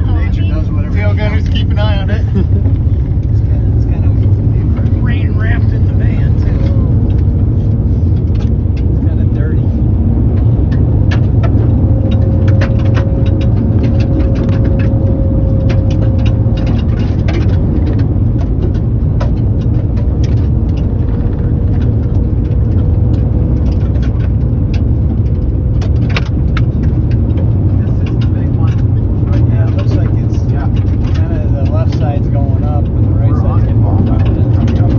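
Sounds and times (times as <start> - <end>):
road and engine rumble: 0.0 - 34.9.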